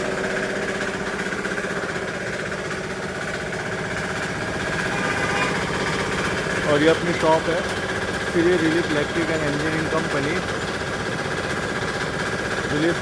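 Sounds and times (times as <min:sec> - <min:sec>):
diesel engine driving air compressor: 0:00.0 - 0:13.0.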